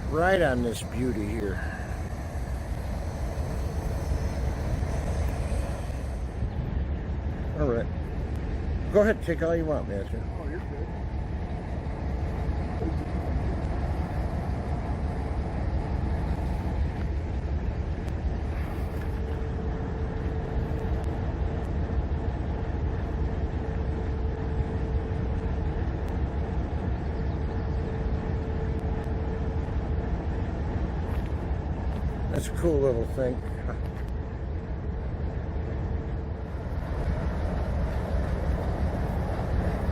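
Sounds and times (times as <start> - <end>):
diesel locomotive idling: 0.0 - 39.9
mid-pitched hum: 0.0 - 39.9.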